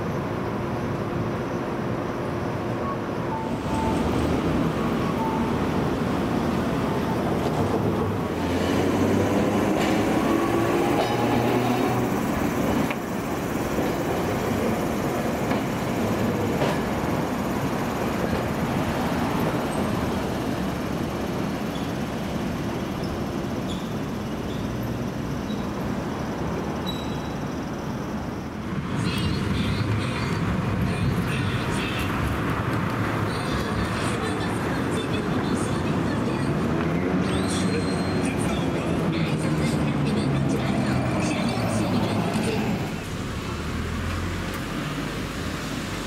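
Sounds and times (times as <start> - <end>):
streetcar motors whining: 0.0 - 46.0
streetcar rolling on track: 0.0 - 46.0.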